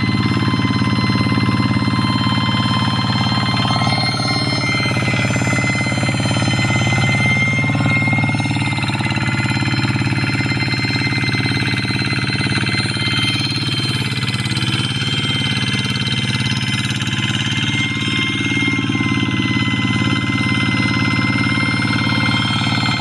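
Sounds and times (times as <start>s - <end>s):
diesel engine running under load: 0.0s - 23.0s
high-pitched ringing tone: 0.0s - 23.0s.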